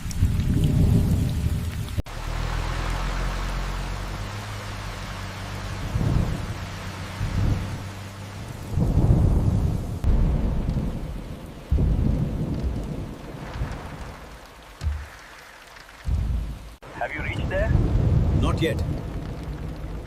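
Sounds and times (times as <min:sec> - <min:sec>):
rolling thunder: 0:00.0 - 0:02.5, 0:05.7 - 0:20.0
steady rain: 0:00.0 - 0:20.0.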